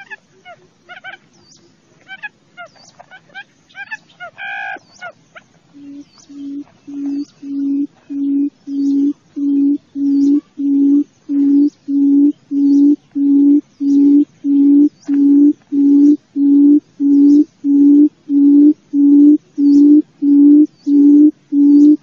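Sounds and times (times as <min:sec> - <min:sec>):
bird low hollow hoots: 0:02.1 - 0:22.0.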